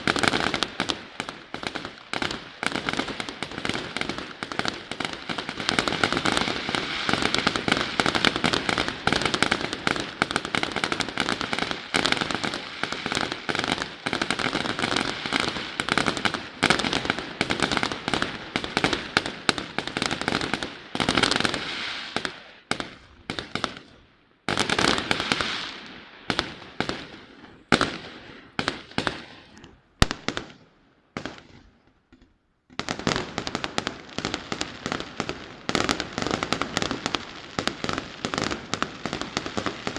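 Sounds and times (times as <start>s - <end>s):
firework bangs and crackling: 0.0s - 39.9s.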